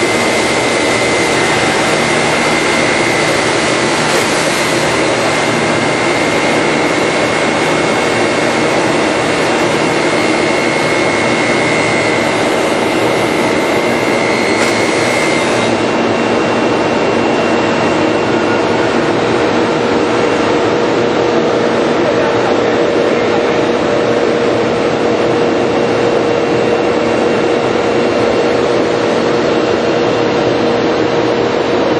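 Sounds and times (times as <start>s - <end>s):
high machine whine: 0.0s - 31.9s
planer machine running: 0.0s - 31.9s.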